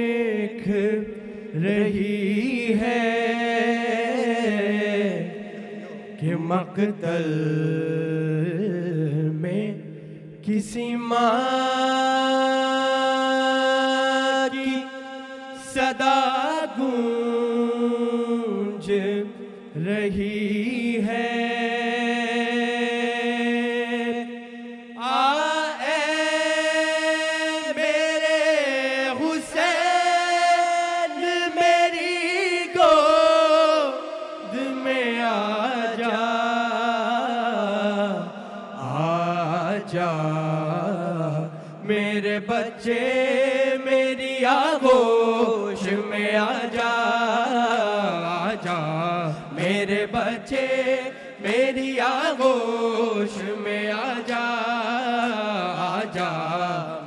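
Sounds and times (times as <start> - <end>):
men singing a lament: 0.0 - 9.8, 10.4 - 57.0.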